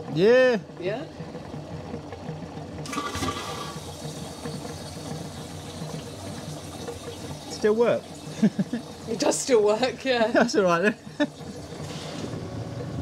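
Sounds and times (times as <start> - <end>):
toilet pump whine: 0.0 - 13.0.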